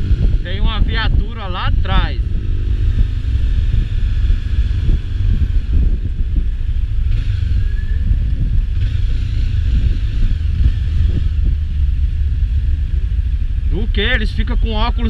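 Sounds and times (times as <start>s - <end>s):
road noise: 0.0s - 15.0s
vehicle engine rumble: 0.0s - 15.0s
wind noise: 0.0s - 15.0s.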